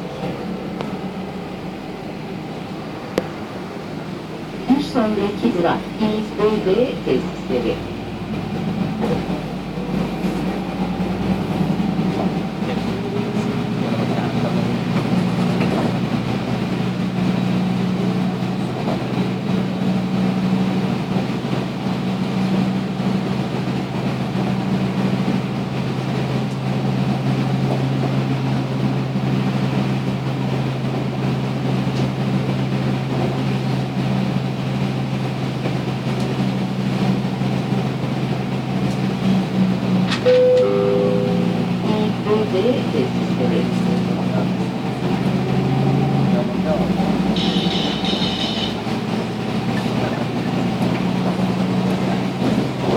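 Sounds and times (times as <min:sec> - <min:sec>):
vehicle cabin rumble: 0:00.0 - 0:52.9.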